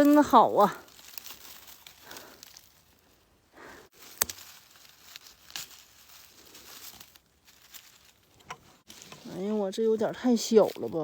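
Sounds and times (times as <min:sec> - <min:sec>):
rustling in leaf litter: 0:00.0 - 0:11.0.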